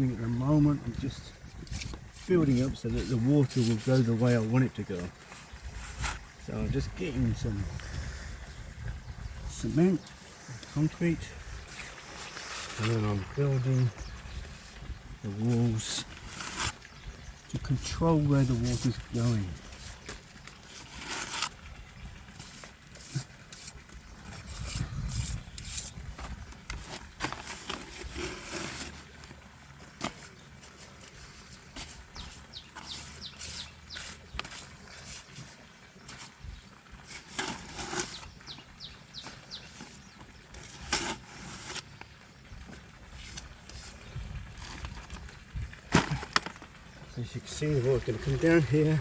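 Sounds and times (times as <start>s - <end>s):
knocks and scrapes of concrete work: 0.0s - 49.0s.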